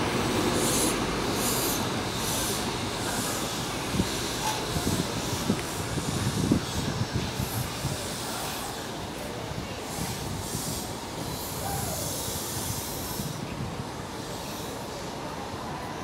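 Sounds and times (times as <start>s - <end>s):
high hiss: 0.0s - 16.0s
train rail noise: 0.0s - 16.0s.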